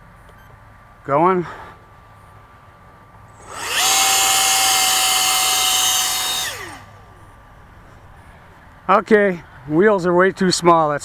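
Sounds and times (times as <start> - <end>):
electric ducted fans whining: 0.0 - 10.3.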